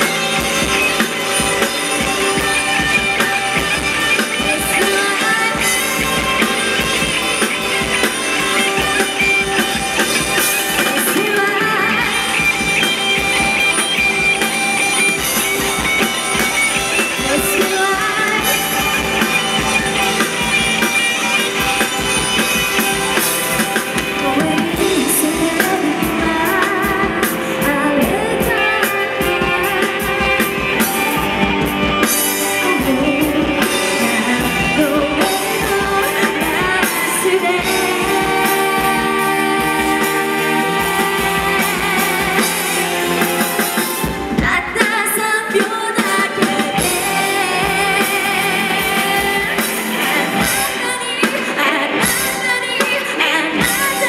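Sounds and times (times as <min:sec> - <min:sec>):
person singing: 0:00.0 - 0:22.1, 0:23.6 - 0:54.0
rock band playing: 0:00.0 - 0:54.0.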